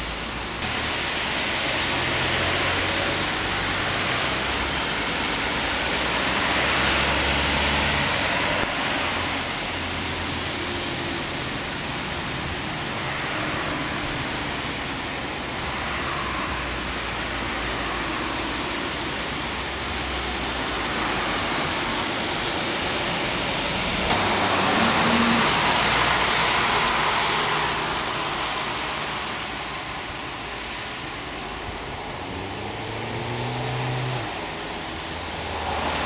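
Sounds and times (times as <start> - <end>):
bus and car engines: 0.0 - 36.0
tyres hissing on wet road: 0.0 - 36.0.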